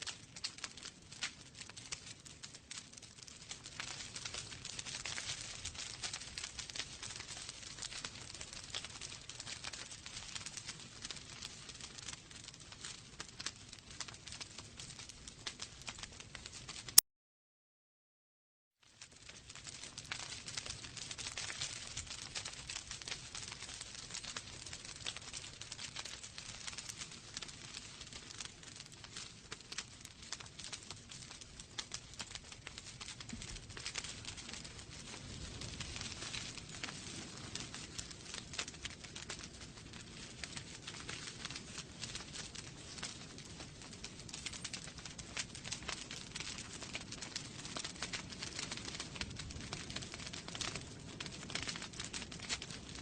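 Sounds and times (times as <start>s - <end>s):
wood fire crackling: 0.0s - 17.0s, 18.8s - 53.0s.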